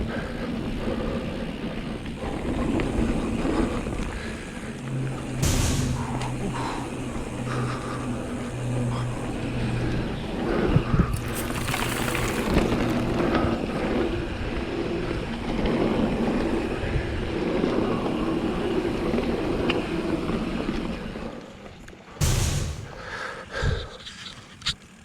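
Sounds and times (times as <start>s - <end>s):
wind buffeting microphone: 0.0s - 20.4s
bike tyres rumbling over dirt: 0.0s - 24.1s
bike rattling: 0.0s - 25.0s.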